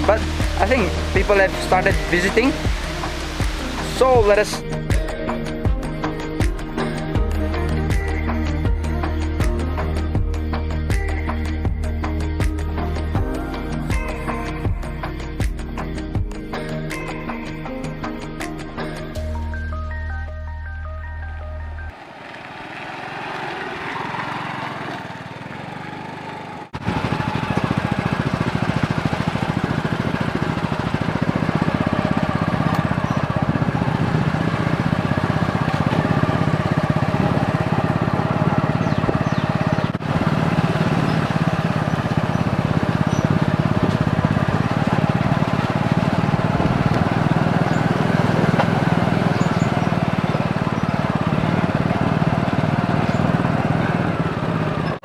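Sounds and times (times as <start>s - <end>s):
small vehicle engine running: 0.0s - 19.2s, 21.9s - 55.0s.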